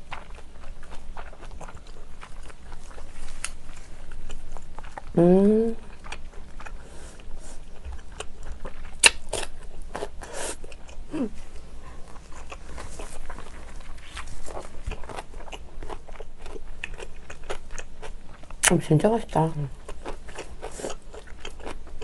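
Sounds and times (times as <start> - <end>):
crunching and wet chewing: 0.0 - 5.2, 5.8 - 18.8, 19.7 - 22.0.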